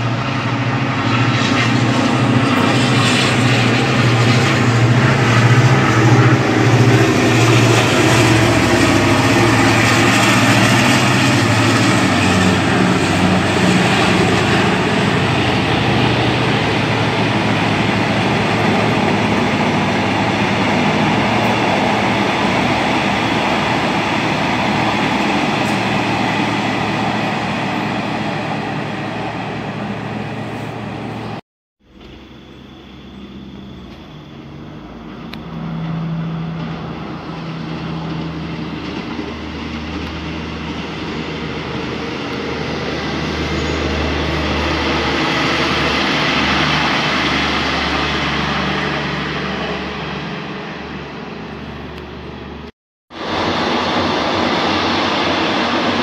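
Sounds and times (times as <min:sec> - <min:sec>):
diesel locomotive engine: 0:00.0 - 0:56.0
train carriages rumbling on rails: 0:00.0 - 0:56.0.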